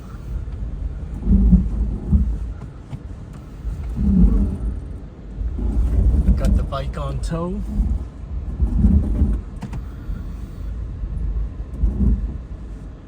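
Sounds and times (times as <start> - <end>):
vehicle engine rumbling in snow: 0.0 - 13.0.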